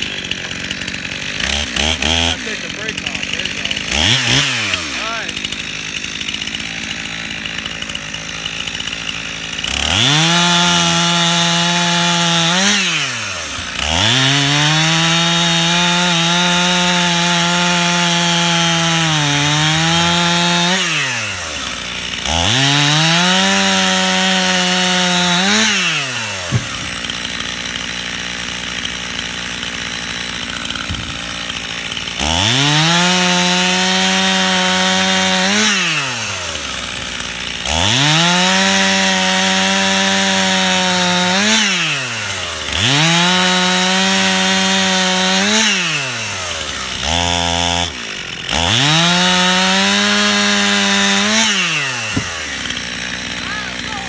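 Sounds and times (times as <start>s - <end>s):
chainsaw cutting: 0.0s - 54.0s.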